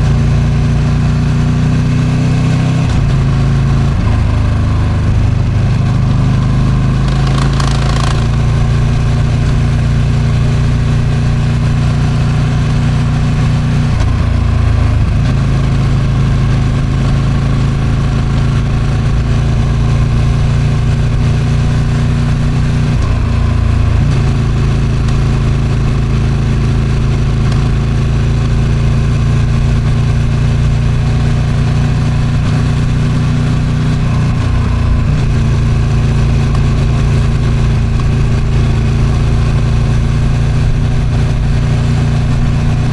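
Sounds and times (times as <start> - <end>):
motorcycle engine at road speed: 0.0 - 42.9.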